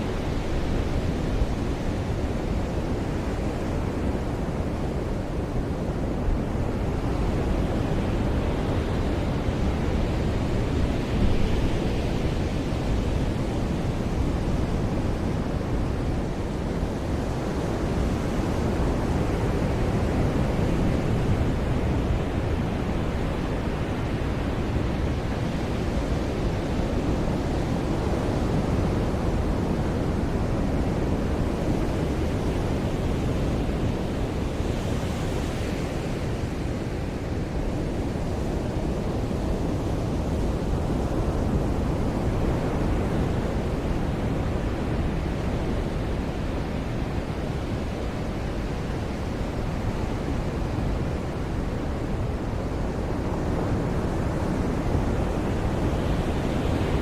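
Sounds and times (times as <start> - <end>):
ocean surf washing onto beach: 0.0 - 57.0.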